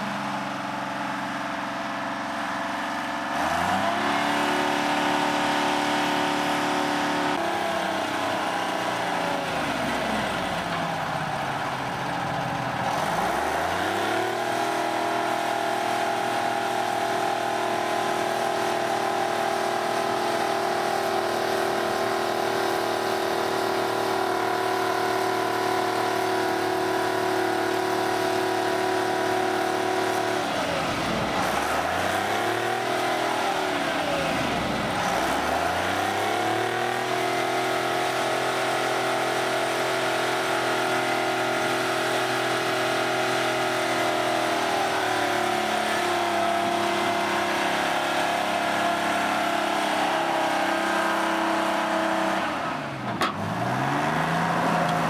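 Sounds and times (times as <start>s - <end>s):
earth-moving machine engine running: 0.0s - 55.0s.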